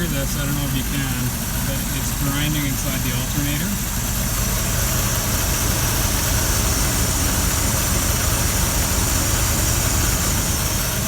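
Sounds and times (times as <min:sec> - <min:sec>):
alternator grinding: 0:00.0 - 0:11.0
truck engine idling: 0:00.0 - 0:11.0.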